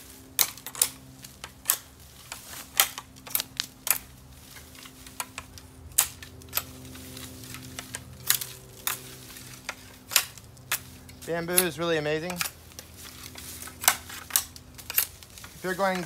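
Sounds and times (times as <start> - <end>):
pruning shears snipping: 0.0 - 16.0.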